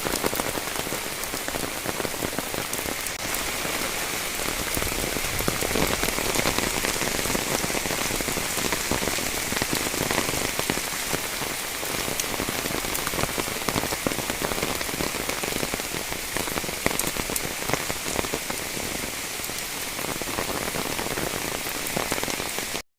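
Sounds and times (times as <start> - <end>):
heavy rain: 0.0 - 22.8
raindrops pattering: 0.0 - 22.8.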